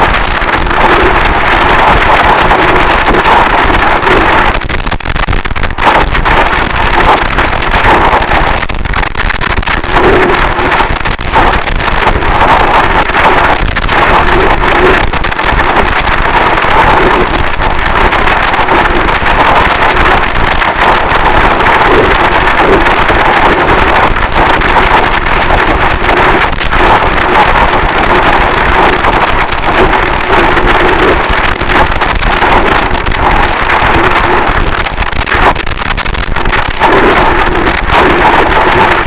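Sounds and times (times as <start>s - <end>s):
harsh distorted static noise: 0.0s - 39.0s.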